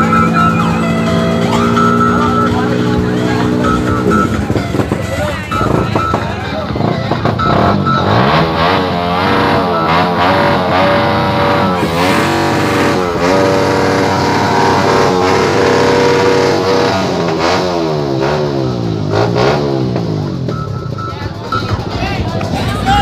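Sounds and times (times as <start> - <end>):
engine revving: 0.0 - 22.9.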